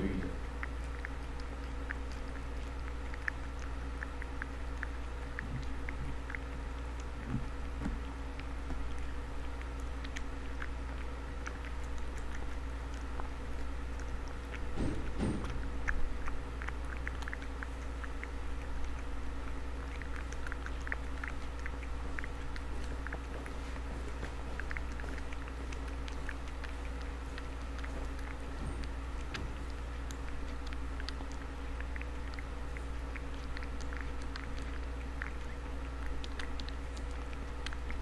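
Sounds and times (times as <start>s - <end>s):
cat chewing and lapping: 0.0s - 38.0s
steady low hum: 0.0s - 38.0s.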